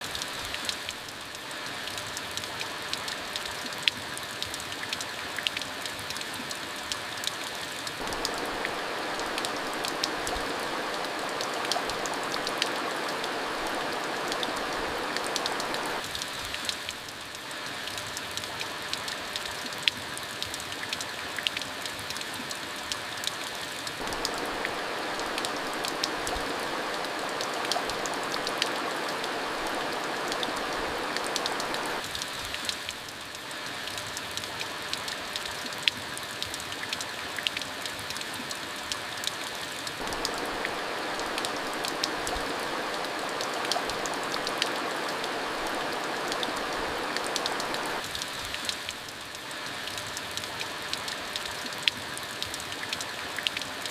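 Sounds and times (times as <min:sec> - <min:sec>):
raindrops hitting a surface: 0:00.0 - 0:53.9
steady rain falling: 0:00.0 - 0:53.9.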